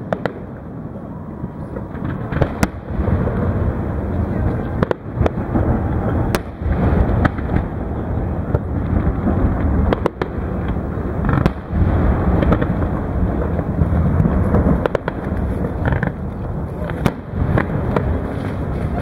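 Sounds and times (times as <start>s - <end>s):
fireworks cracking: 0.0s - 19.0s
low rumble: 0.0s - 19.0s.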